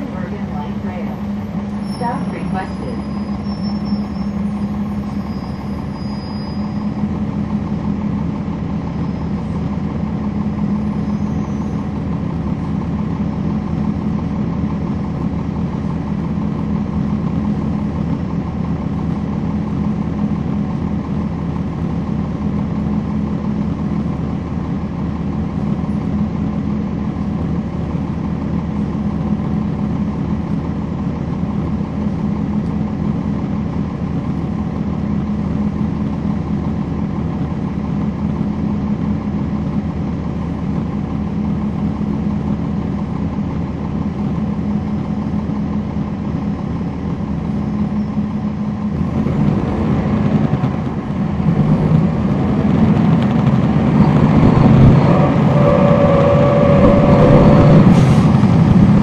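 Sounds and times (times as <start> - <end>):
bus diesel engine humming: 0.0 - 59.0.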